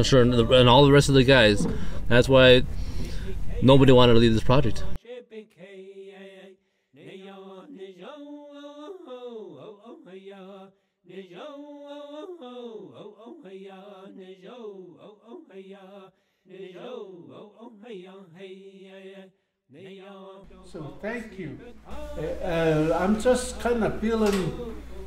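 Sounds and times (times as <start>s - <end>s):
man singing a chant: 4.9s - 25.0s.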